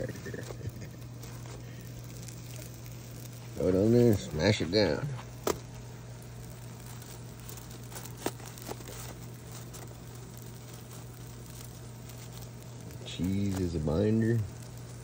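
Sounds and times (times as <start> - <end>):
aluminium foil crinkling: 0.0 - 15.0
steady low hum: 0.0 - 15.0.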